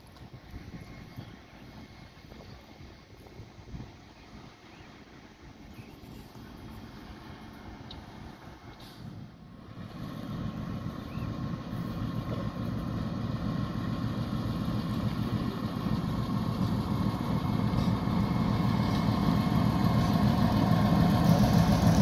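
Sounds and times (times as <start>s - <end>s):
diesel locomotive engines running: 0.0s - 22.0s.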